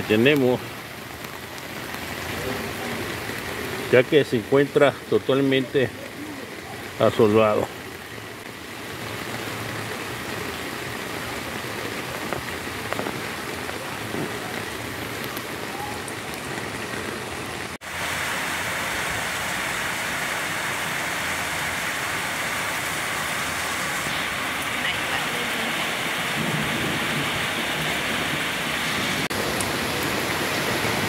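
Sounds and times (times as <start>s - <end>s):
heavy rain on water: 0.0s - 31.0s.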